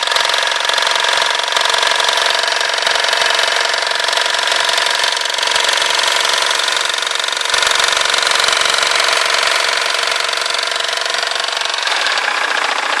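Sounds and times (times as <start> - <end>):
diesel engine knocking clatter: 0.0 - 13.0.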